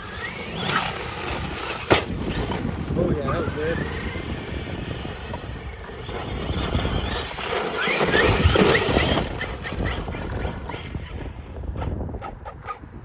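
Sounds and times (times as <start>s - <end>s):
electric motor squealing chirps: 0.0s - 11.3s.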